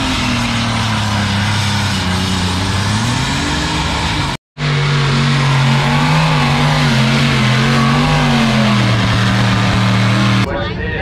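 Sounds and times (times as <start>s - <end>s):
tractor engine under load: 0.0s - 10.5s.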